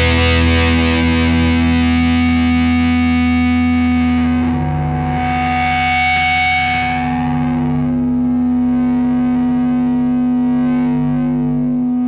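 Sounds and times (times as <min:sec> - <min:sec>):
distorted electric guitar chord: 0:00.0 - 0:12.0.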